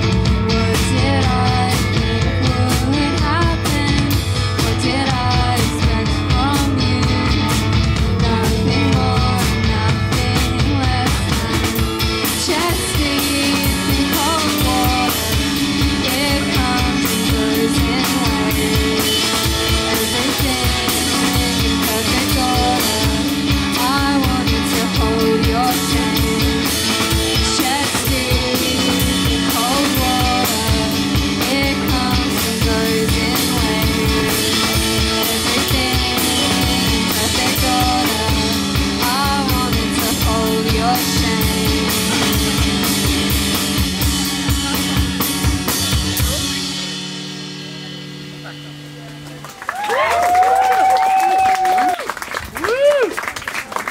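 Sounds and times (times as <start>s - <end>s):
woman singing: 0.0s - 45.3s
drum kit: 0.0s - 53.9s
electric guitar: 0.0s - 53.9s.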